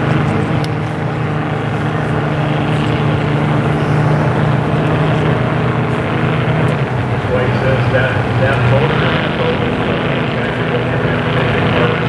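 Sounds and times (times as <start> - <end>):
racing boat engines droning: 0.0 - 12.0.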